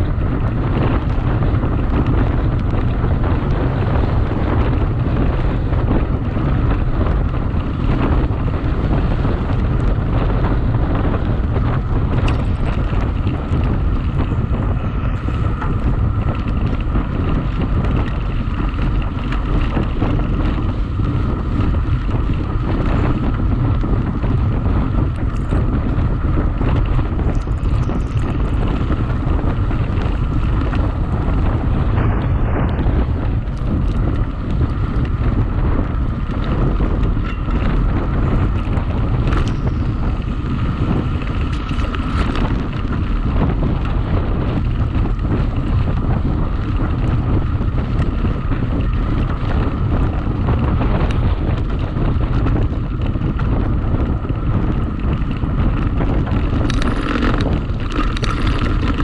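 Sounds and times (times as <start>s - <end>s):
tyres rumbling on track: 0.0s - 59.0s
wind rush on microphone: 0.0s - 59.0s.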